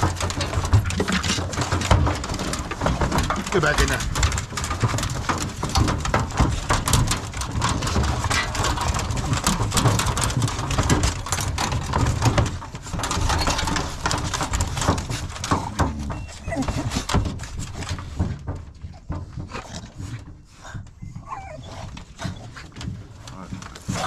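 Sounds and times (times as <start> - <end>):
dogs moving about inside: 0.0 - 24.0
plastic kennel door clattering: 0.0 - 24.0.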